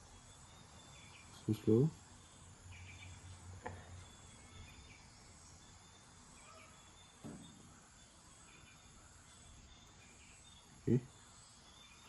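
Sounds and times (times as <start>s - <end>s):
faint high chirps: 0.0s - 12.0s
faint outdoor ambience: 0.0s - 12.0s.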